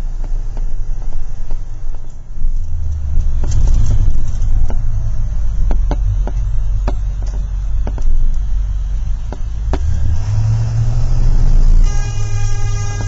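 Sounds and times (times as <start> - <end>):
bus body rattling: 0.0 - 13.0
bus engine and road rumble: 0.0 - 13.0.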